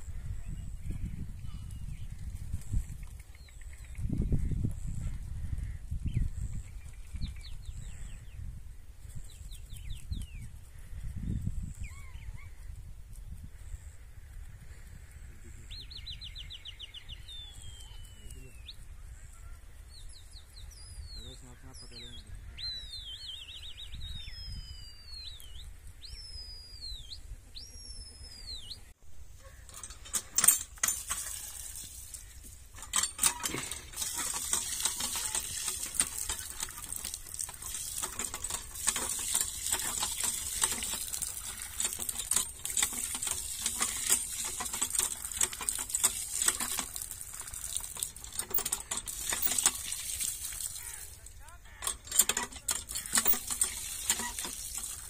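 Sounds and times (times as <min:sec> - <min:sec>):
small birds chirping: 0:00.0 - 0:12.9, 0:13.5 - 0:30.1, 0:31.3 - 0:55.0.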